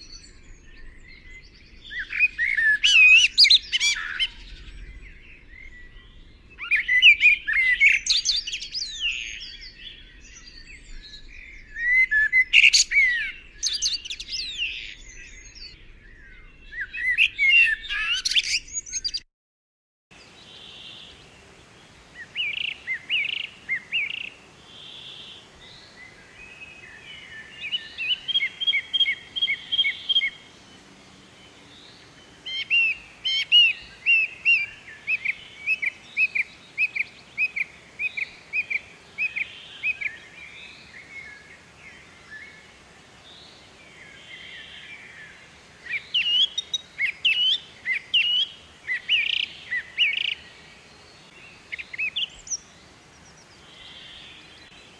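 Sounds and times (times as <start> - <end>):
birds chirping and trilling: 0.0 - 19.2, 20.2 - 54.9.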